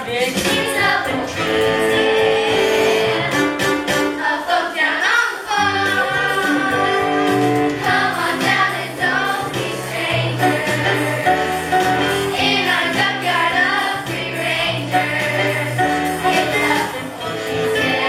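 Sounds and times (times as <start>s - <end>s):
instrumental accompaniment: 0.0s - 4.7s, 5.4s - 18.0s
voices singing together: 0.0s - 18.0s.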